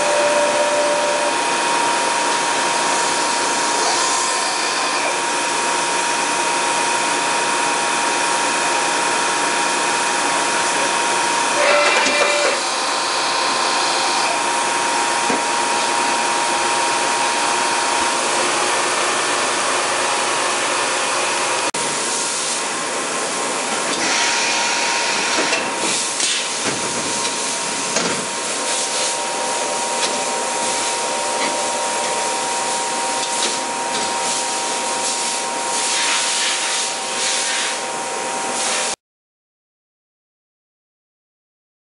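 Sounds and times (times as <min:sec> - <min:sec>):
machine whine: 0:00.0 - 0:21.8, 0:23.5 - 0:35.8
machining center hiss and hum: 0:00.0 - 0:39.0.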